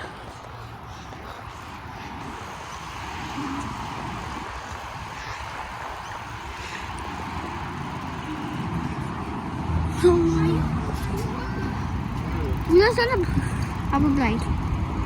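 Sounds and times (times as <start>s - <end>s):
rushing vehicle noise: 0.0s - 15.0s.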